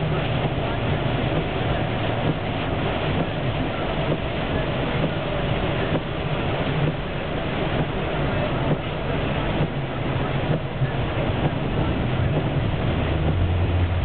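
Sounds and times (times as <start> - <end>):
van tyres and engine rumble: 0.0 - 14.0.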